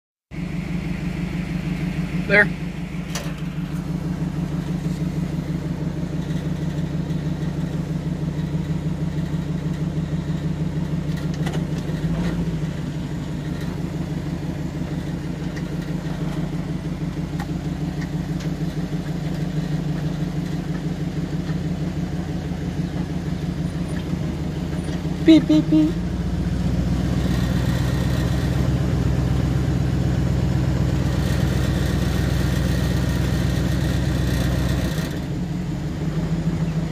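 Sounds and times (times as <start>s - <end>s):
truck engine running at low revs: 0.3s - 36.9s.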